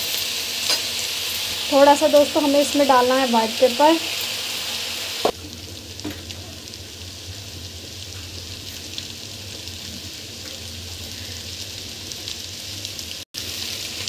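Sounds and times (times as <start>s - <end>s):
noodles sizzling in a pan: 0.0s - 14.0s.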